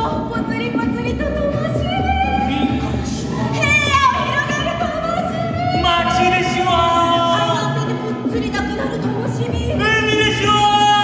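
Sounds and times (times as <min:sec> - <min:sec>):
group singing: 0:01.6 - 0:11.0.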